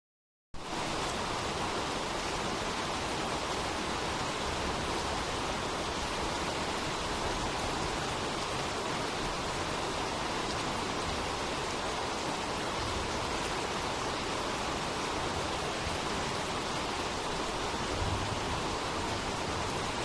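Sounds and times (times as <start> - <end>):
steady dense rain: 0.6 - 20.0.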